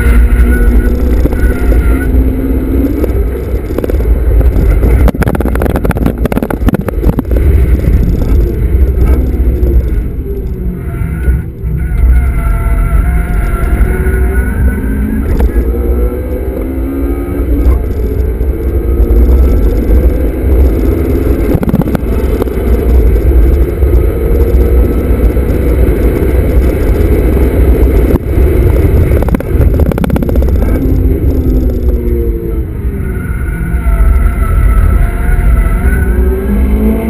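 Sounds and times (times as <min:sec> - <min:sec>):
car engine revving: 0:00.0 - 0:37.0
road rumble: 0:00.0 - 0:37.0.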